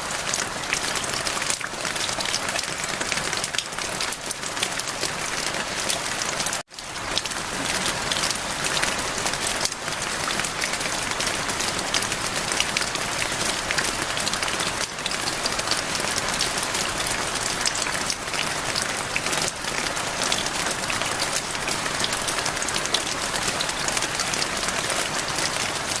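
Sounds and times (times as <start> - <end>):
rain pattering on surfaces: 0.0 - 26.0.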